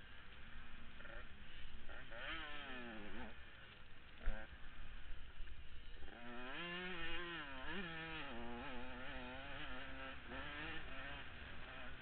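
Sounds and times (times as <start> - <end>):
two-stroke engine revving: 0.8 - 4.8, 5.9 - 12.0.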